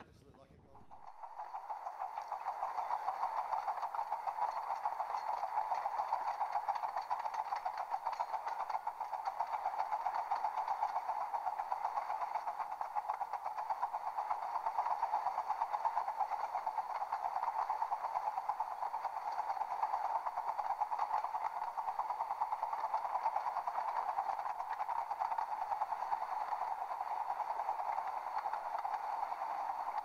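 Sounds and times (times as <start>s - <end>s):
train running: 0.7s - 30.0s.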